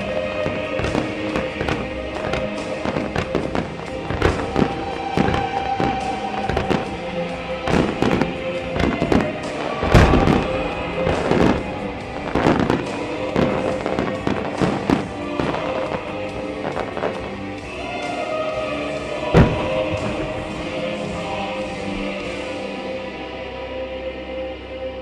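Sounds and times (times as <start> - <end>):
fireworks bursting: 0.0 - 22.8
music over loudspeakers: 0.0 - 25.0.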